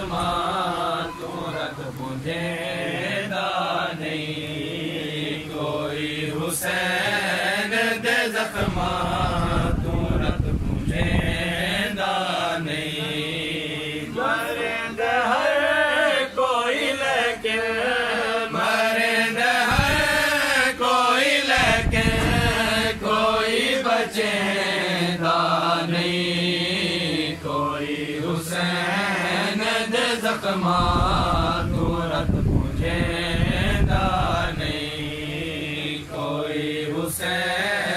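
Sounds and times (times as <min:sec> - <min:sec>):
men chanting melodically: 0:00.0 - 0:37.9.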